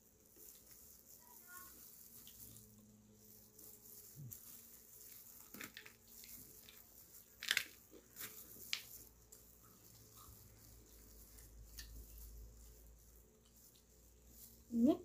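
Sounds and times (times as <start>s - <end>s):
sharp food crackles: 0.0s - 15.0s.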